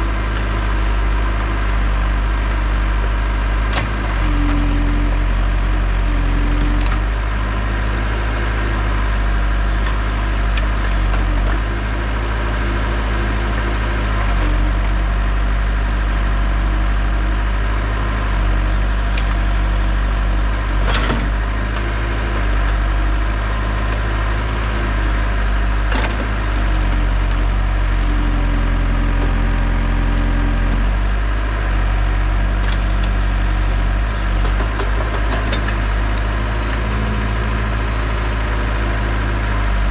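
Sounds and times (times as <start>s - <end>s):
heavy equipment engine running: 0.0s - 39.9s.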